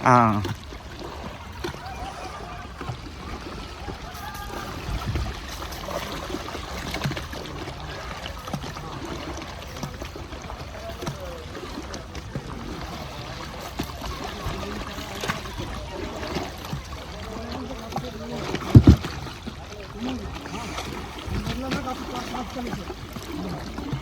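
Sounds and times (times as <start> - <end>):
faint voices: 0.0 - 24.0
river water trickling and lapping: 0.0 - 24.0.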